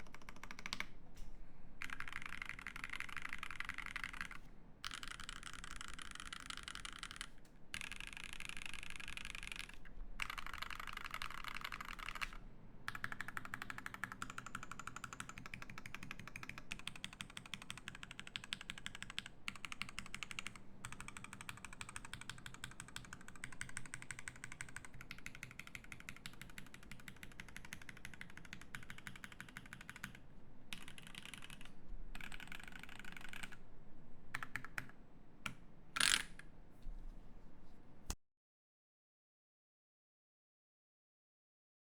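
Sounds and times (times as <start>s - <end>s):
mechanical keyboard typing: 0.0s - 1.0s, 1.8s - 33.6s, 34.3s - 35.0s, 36.0s - 36.4s.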